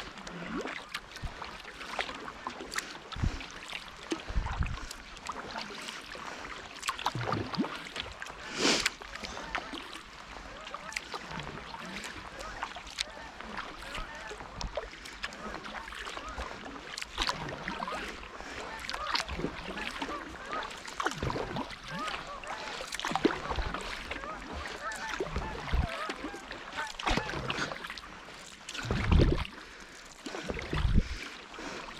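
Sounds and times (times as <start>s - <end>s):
paddle blades splashing: 0.0s - 31.9s.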